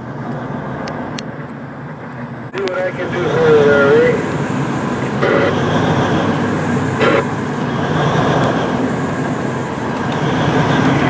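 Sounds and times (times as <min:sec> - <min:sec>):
heavy diesel engine rumbling: 0:00.0 - 0:11.0.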